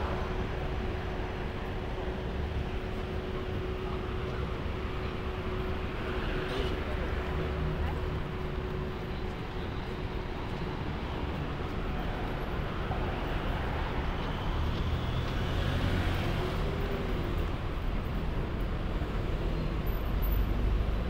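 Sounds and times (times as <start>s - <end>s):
city road traffic: 0.0s - 21.0s.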